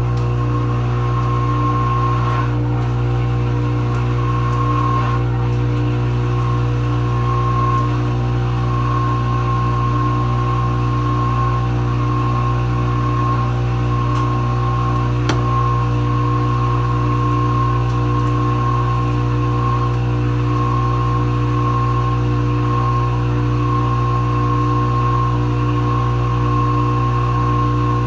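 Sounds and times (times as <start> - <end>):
dishwasher motor hum: 0.0 - 28.0.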